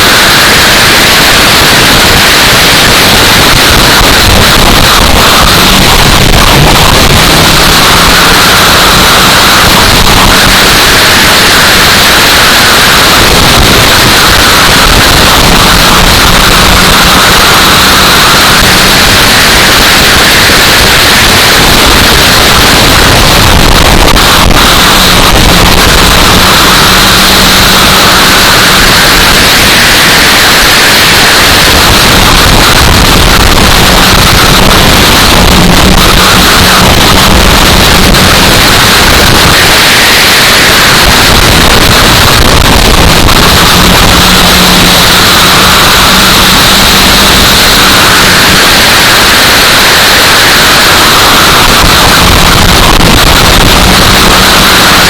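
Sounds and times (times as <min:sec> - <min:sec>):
wind noise on microphone: 0:00.0 - 0:50.6.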